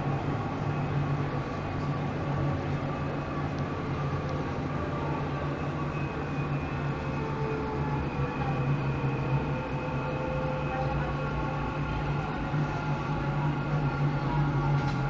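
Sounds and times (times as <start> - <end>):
faint whining tones: 0.0 - 15.0
train wheels rumbling on rail: 0.0 - 15.0.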